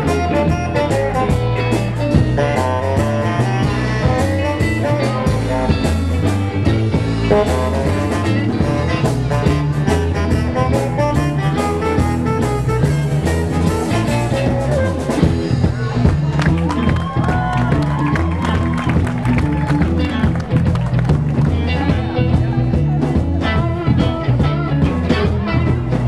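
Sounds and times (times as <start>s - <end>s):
blues-rock band playing: 0.0s - 26.0s.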